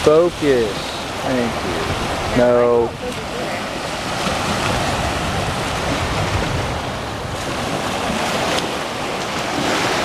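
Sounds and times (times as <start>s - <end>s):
surf washing on beach: 0.0s - 10.0s
wind buffeting microphone: 0.0s - 10.0s.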